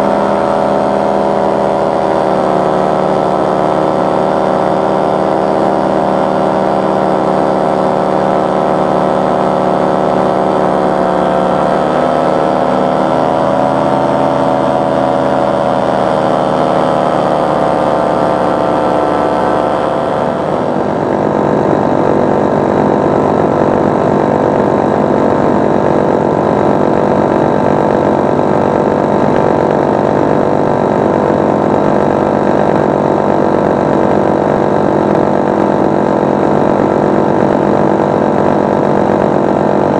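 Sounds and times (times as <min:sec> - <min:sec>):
paramotor engine and propeller running: 0:00.0 - 0:39.9.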